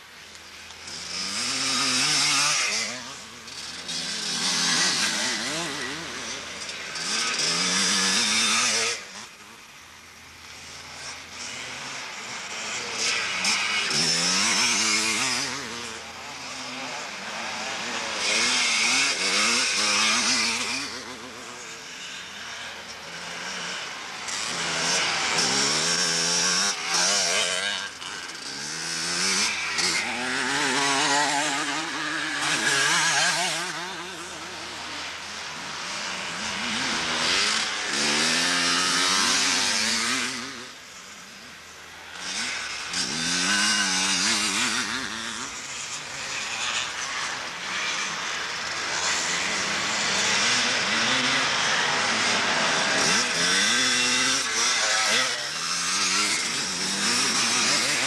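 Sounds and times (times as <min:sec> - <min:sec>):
motocross motorcycles revving past: 0:00.0 - 0:58.0.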